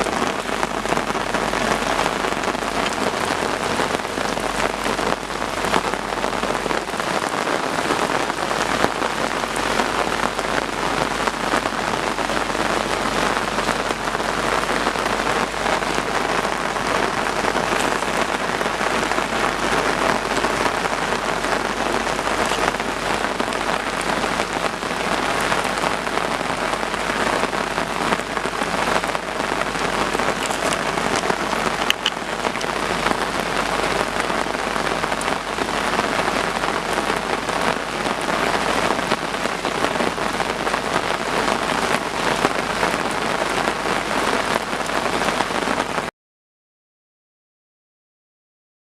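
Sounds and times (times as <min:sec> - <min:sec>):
heavy rain falling: 0:00.0 - 0:46.1.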